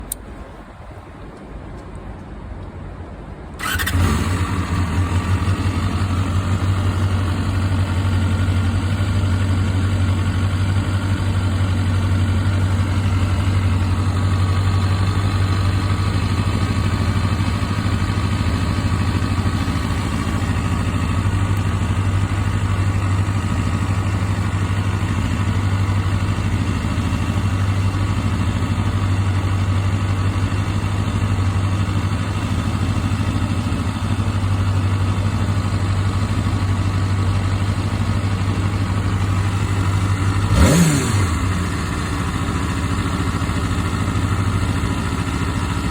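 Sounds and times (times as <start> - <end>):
motorcycle engine starting and idling: 3.6 - 45.9.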